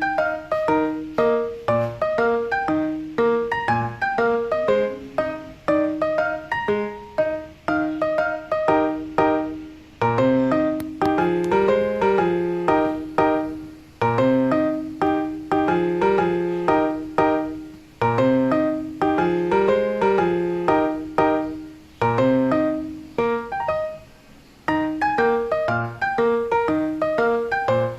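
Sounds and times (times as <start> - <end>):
keyboard background music: 0.0 - 27.9.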